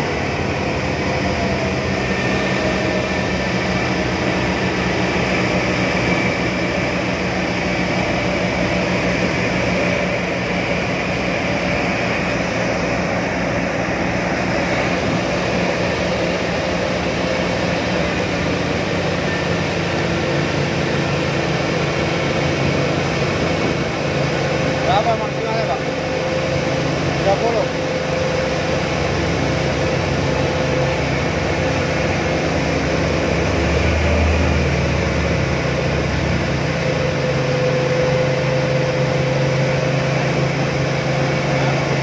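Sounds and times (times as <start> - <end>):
outboard motors droning: 0.0 - 42.0
water rushing from wake: 0.0 - 42.0.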